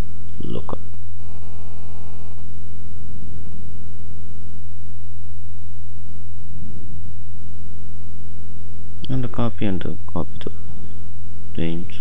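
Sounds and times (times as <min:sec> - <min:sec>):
faint buzzing tones: 0:00.0 - 0:12.0
loud electrical hum: 0:00.0 - 0:12.0.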